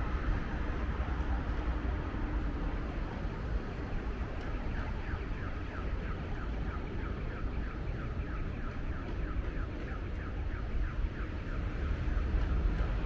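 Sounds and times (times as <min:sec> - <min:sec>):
street traffic rumble: 0:00.0 - 0:13.0
wind: 0:00.0 - 0:13.0.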